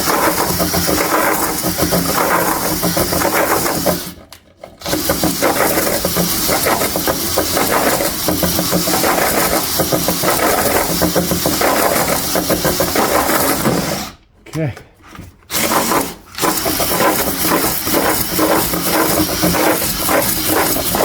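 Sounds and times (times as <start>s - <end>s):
abrasive balls scouring metal: 0.0s - 4.2s, 4.9s - 14.0s, 15.6s - 21.0s
power drill spinning a cylinder hone: 0.0s - 4.2s, 4.8s - 14.1s, 15.5s - 21.0s.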